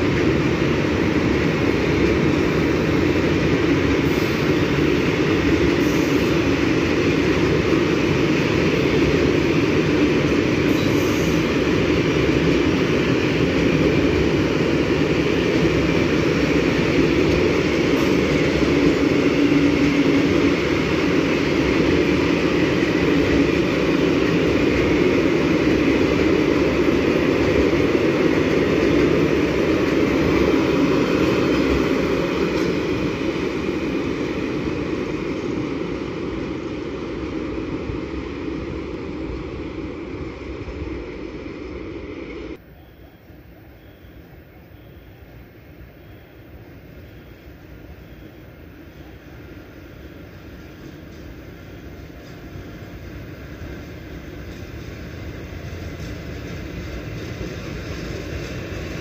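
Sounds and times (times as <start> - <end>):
train rolling past on rails: 0.0 - 59.0.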